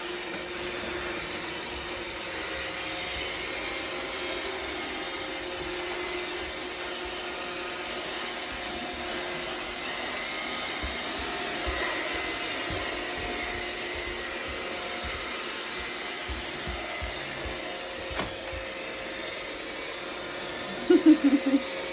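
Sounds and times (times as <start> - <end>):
robot vacuum whirring: 0.1 - 21.9.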